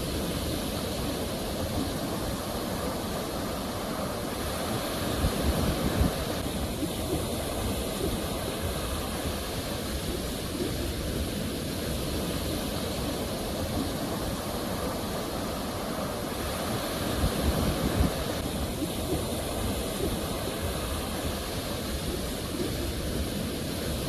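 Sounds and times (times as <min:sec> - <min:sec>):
sea waves washing: 0:00.0 - 0:24.0.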